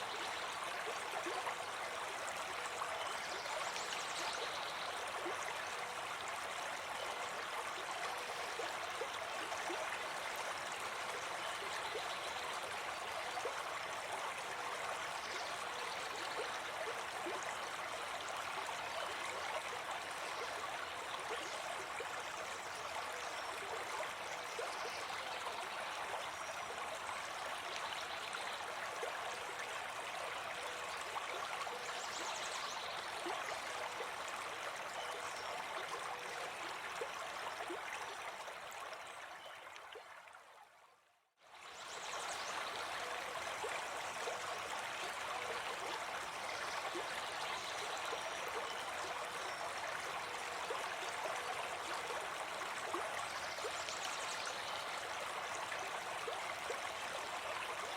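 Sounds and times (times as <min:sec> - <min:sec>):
brook babbling over stones: 0:00.0 - 0:57.9.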